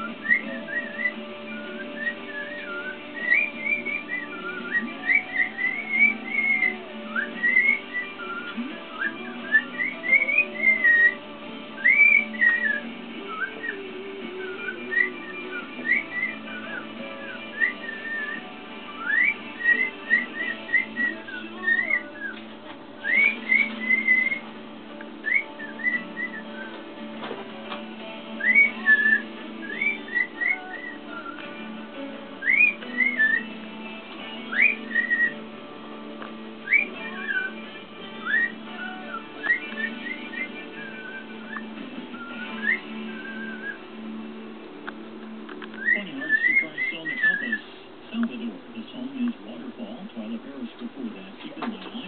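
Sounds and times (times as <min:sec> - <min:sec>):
cockatiel whistling: 0:00.0 - 0:11.2, 0:11.8 - 0:24.5, 0:25.2 - 0:27.1, 0:28.4 - 0:31.7, 0:32.4 - 0:35.5, 0:36.6 - 0:44.2, 0:45.5 - 0:47.7
background music: 0:00.0 - 0:52.0.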